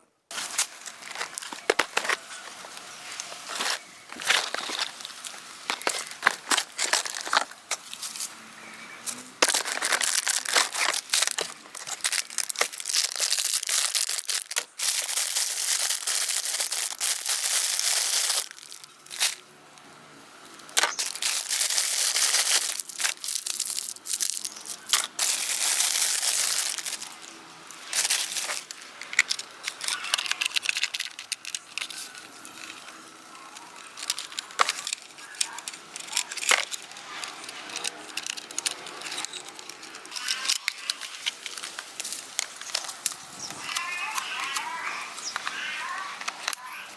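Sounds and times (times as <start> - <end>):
plastic packaging crinkling: 0.3 - 8.4, 9.1 - 46.9.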